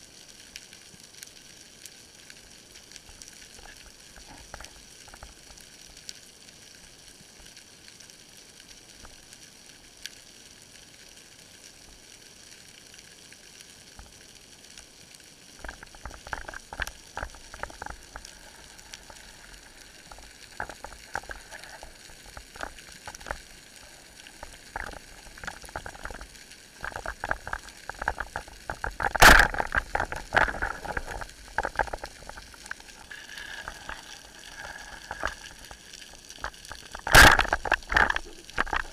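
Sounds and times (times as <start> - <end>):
underwater crackling and clicking: 0.0 - 38.9.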